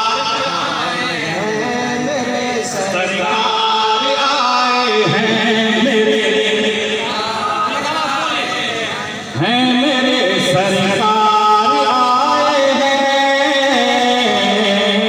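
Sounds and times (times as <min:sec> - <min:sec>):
man chanting over loudspeakers: 0:00.0 - 0:15.0.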